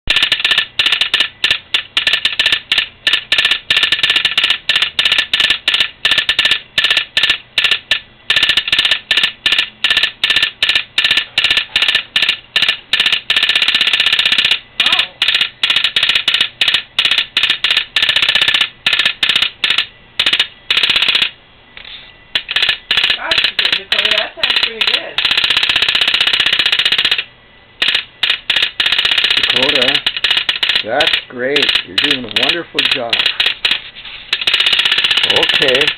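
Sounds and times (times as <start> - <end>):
telegraph clicking: 0.1 - 21.4, 22.4 - 35.9.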